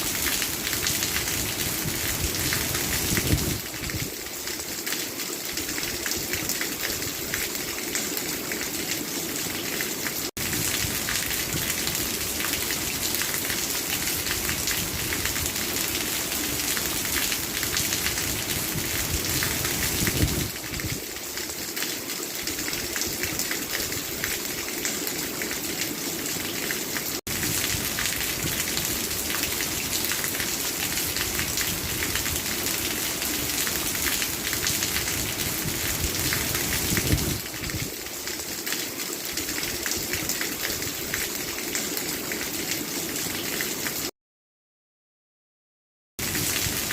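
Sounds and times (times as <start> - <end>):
steady rain falling: 0.0 - 44.1, 46.2 - 46.9.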